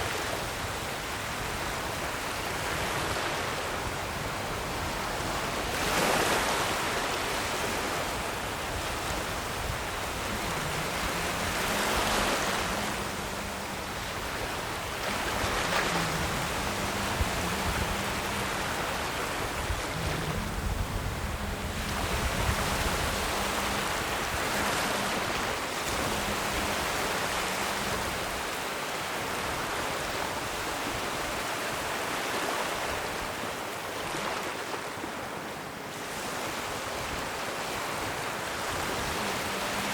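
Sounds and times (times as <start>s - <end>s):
ocean waves breaking ashore: 0.0s - 39.9s.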